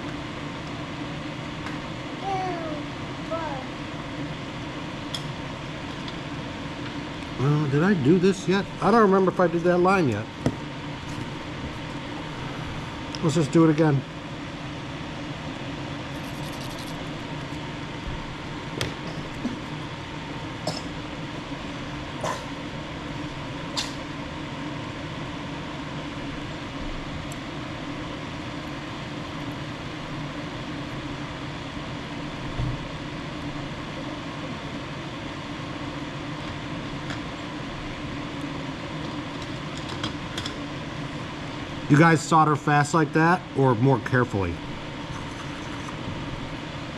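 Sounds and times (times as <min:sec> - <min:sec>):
fan hum: 0:00.0 - 0:46.9.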